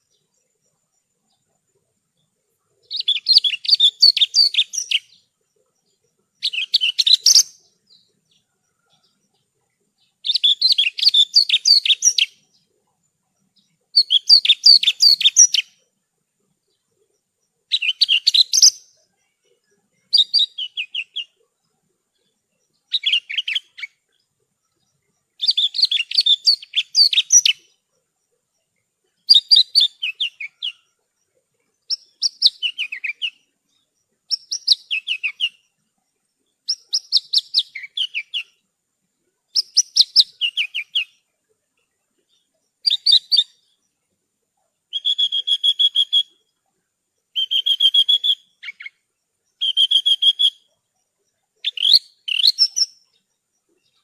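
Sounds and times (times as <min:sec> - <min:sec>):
bush lark singing: 0:00.0 - 0:38.7, 0:39.3 - 0:44.0, 0:44.8 - 0:54.0.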